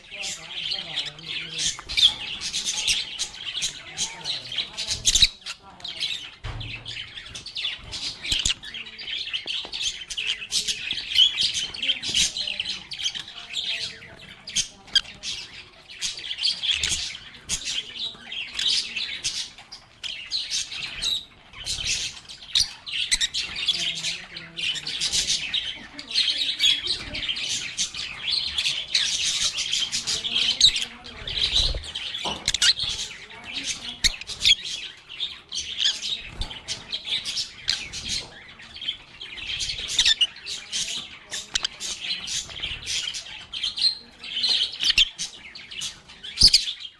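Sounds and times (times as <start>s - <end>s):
lovebirds chirping: 0.0s - 46.9s.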